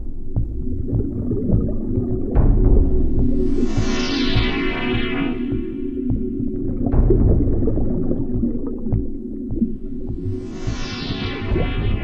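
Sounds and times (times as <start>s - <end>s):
low pulse: 0.0s - 12.0s.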